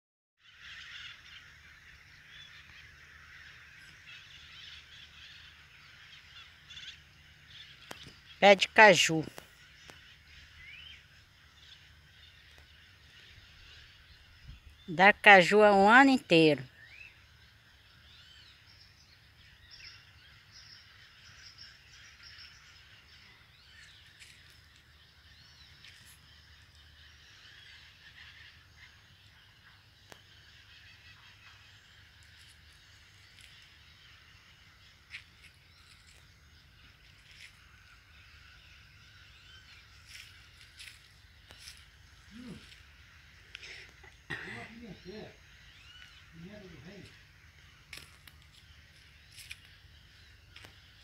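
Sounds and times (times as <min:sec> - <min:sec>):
birds calling and chattering: 0:00.4 - 0:51.0.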